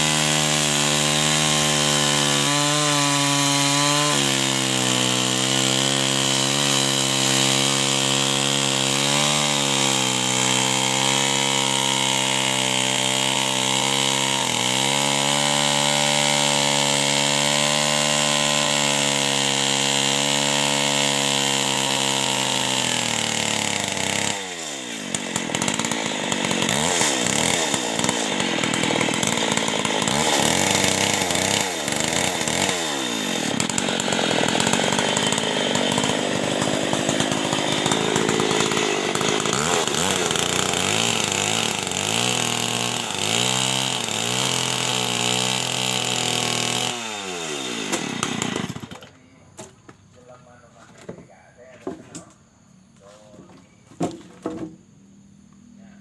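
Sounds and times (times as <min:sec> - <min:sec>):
chainsaw cutting wood: 0:00.0 - 0:52.4, 0:53.9 - 0:55.0.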